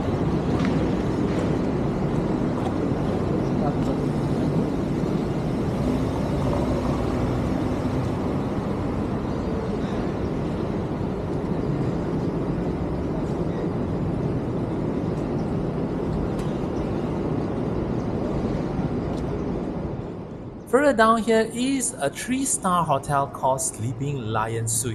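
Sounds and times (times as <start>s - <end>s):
traffic rumble: 0.0s - 24.9s.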